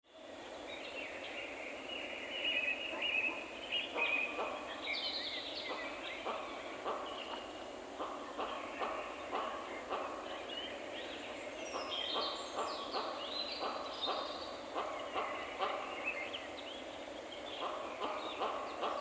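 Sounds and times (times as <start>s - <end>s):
forest background: 0.0s - 19.0s.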